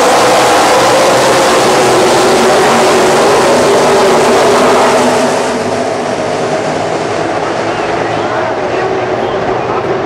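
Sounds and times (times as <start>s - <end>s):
racing truck engines passing: 0.0s - 10.0s.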